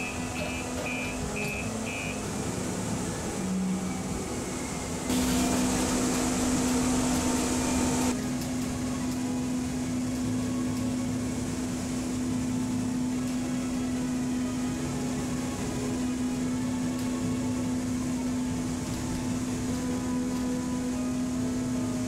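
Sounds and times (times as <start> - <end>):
light rail vehicle humming: 0.0 - 22.0.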